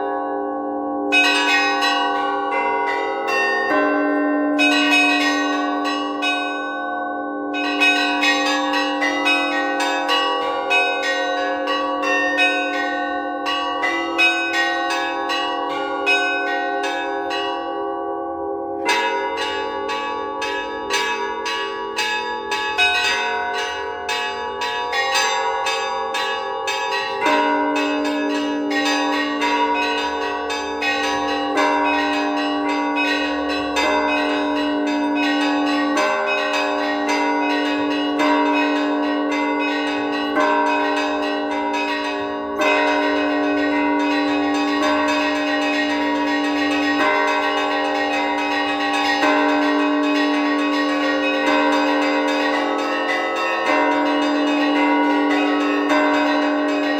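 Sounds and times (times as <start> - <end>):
middle bells ringing: 0.0 - 56.9
small treble bells ringing rapidly: 7.6 - 17.7, 18.8 - 56.9.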